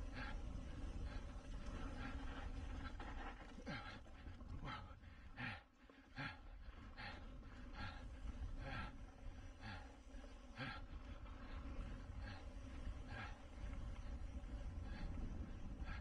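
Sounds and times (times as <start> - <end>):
wind rumble on microphone: 0.0 - 5.5, 6.2 - 16.0
person breathing hard: 0.0 - 16.0.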